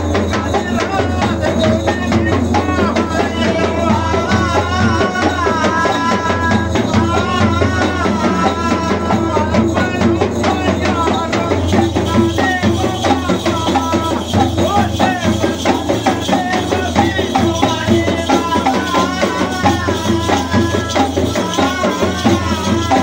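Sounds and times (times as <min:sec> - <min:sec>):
barrel drums played fast: 0:00.0 - 0:23.0
jingling percussion: 0:00.0 - 0:23.0.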